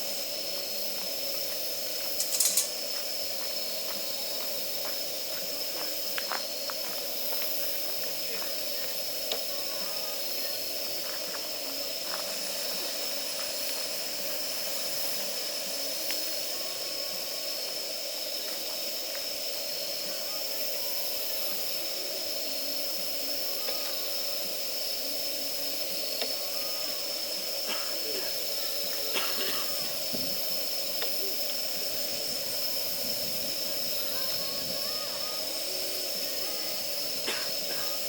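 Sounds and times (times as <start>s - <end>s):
gas burner hissing: 0.0s - 38.0s.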